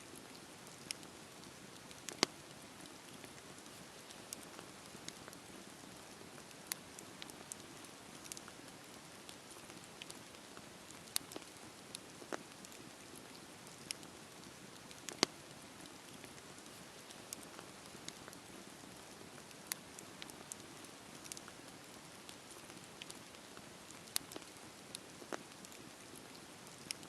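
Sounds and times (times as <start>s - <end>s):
burning wood popping and crackling: 0.2s - 27.0s
campfire flames hissing: 0.2s - 27.0s.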